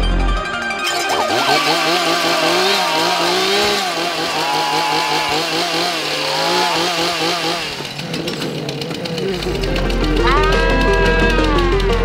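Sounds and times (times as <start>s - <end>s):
steady low drone: 0.0s - 12.0s
small engine buzzing and revving: 0.8s - 12.0s.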